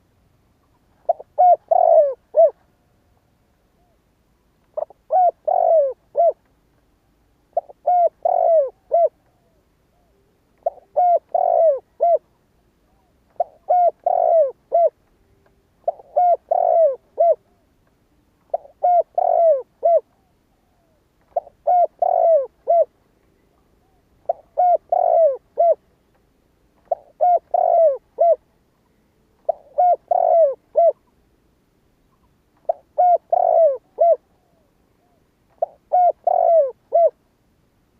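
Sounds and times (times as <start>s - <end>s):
dove cooing: 0.9s - 2.9s, 4.8s - 6.4s, 7.5s - 17.7s, 18.5s - 25.9s, 26.8s - 31.1s, 32.2s - 37.2s.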